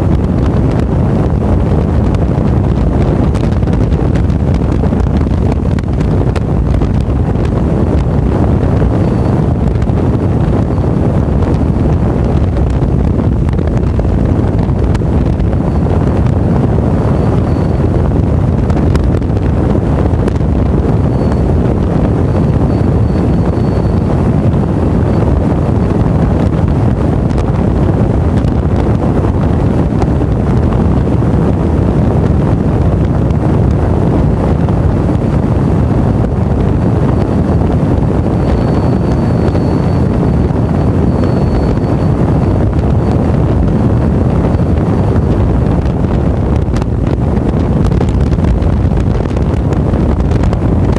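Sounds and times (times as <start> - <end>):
motorcycle running: 0.0 - 50.9
wind buffeting microphone: 0.0 - 50.9.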